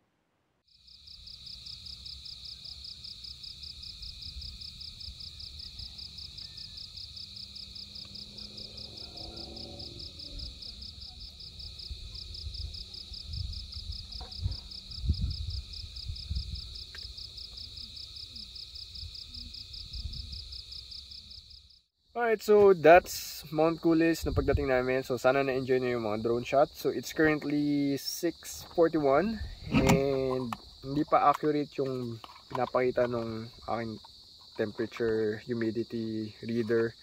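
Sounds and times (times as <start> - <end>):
insects chirring: 0.7 - 37.0.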